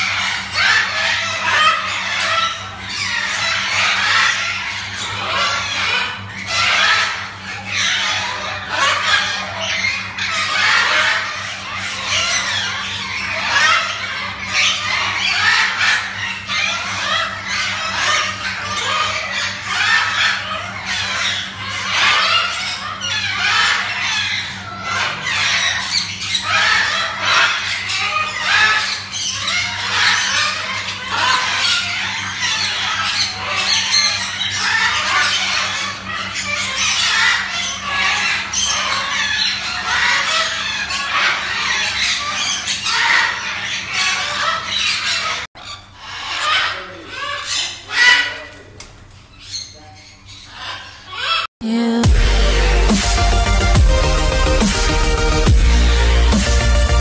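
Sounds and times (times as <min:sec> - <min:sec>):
parrots squawking: 0:00.0 - 0:57.0.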